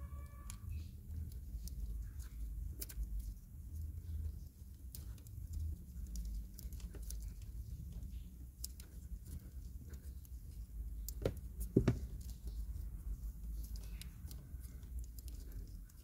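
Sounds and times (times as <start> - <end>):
wires and tape clicking: 0.0 - 16.0.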